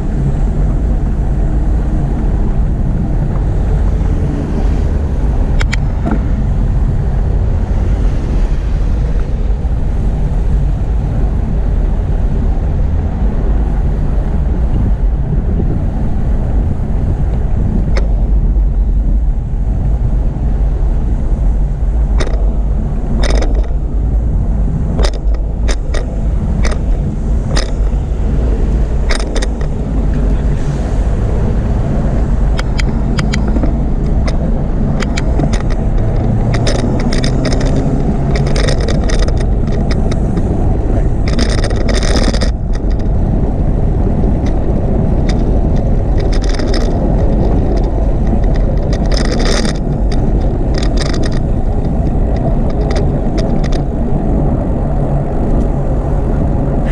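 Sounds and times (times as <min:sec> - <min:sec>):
bicycle rolling noise: 0:00.0 - 0:56.9
sharp clicks and rattles: 0:00.0 - 0:56.9
wind rumble: 0:00.0 - 0:56.9.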